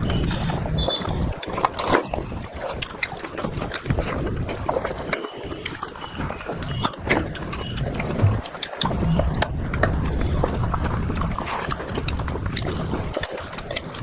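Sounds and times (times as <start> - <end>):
lip smacks: 0.0 - 14.0
wet chewing: 0.0 - 14.0.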